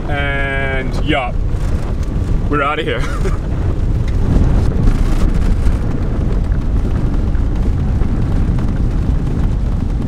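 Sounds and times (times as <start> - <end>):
vehicle cabin rumble: 0.0 - 10.0.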